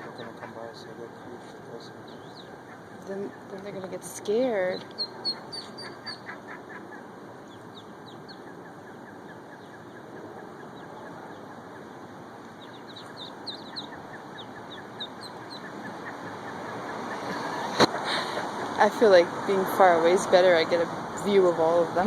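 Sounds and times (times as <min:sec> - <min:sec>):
ducklings peeping: 0:00.0 - 0:22.0
steady background hiss: 0:00.0 - 0:22.0.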